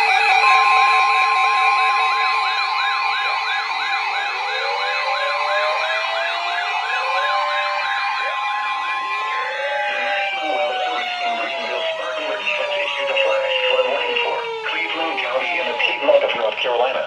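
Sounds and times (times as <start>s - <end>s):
electronic siren warbling: 0.0s - 17.0s
lower siren sweeping upward: 0.0s - 17.0s.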